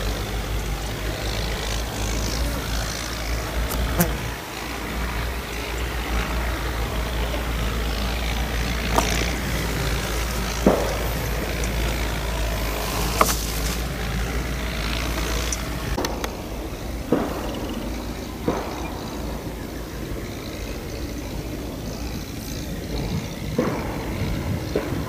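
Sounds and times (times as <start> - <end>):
tractor diesel engine rumble: 0.0 - 25.0.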